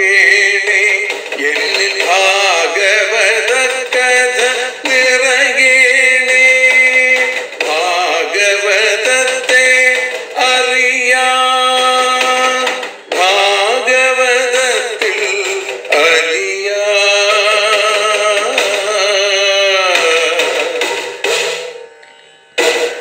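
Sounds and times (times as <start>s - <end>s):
person singing devotional song: 0.0s - 21.2s.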